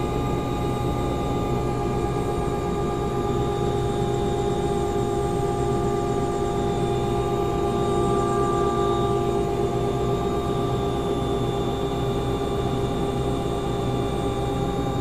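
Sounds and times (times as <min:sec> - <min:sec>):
high whine: 0:00.0 - 0:14.4
helicopter engine drone: 0:00.0 - 0:15.0.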